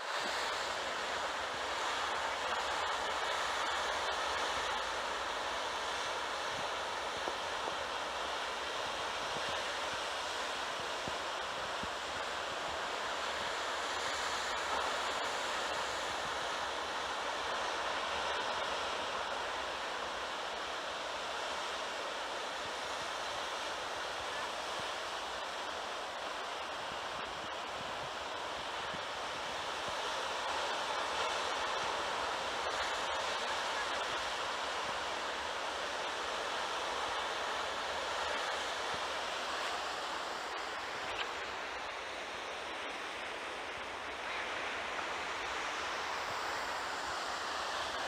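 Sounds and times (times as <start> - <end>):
heavy surf breaking waves: 0.0 - 48.0.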